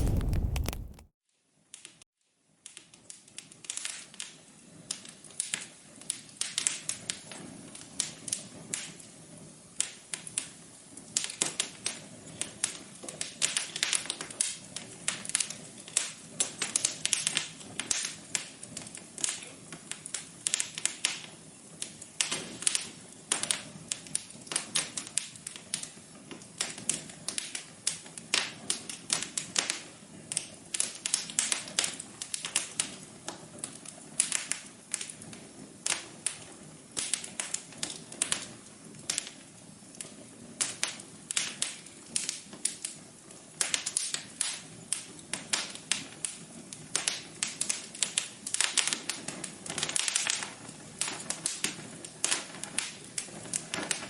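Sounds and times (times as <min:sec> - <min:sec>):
wood fire crackling: 0:00.0 - 0:01.1, 0:03.1 - 0:54.0.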